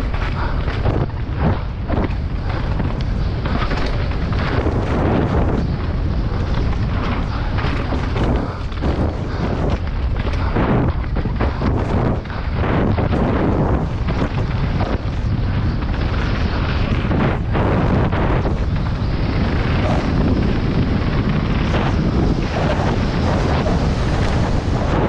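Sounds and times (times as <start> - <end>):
bike rattling over stones: 0.0 - 25.0
wind noise on microphone: 0.0 - 25.0.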